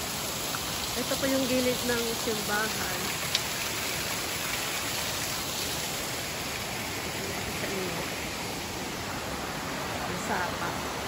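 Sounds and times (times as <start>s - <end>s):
rushing stream and waterfall: 0.0s - 11.0s.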